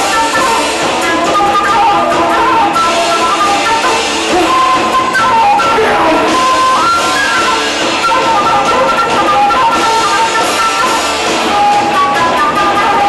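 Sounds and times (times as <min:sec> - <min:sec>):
electric guitar: 0:00.0 - 0:13.0
flute solo: 0:00.0 - 0:13.0.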